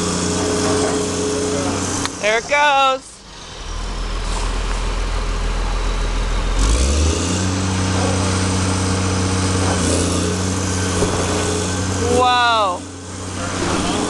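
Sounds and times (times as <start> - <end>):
heavy machine engine revving: 0.0 - 14.0.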